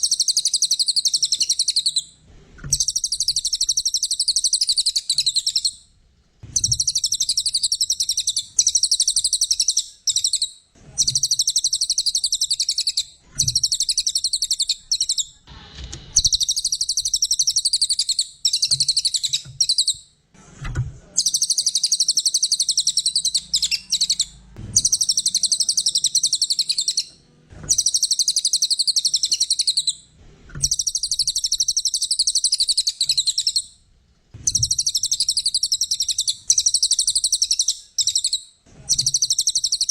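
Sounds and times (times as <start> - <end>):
bird high-pitched trill: 0.0 - 2.1, 2.7 - 5.8, 6.6 - 15.4, 16.2 - 20.0, 21.2 - 27.1, 27.7 - 30.0, 30.6 - 33.7, 34.5 - 39.9.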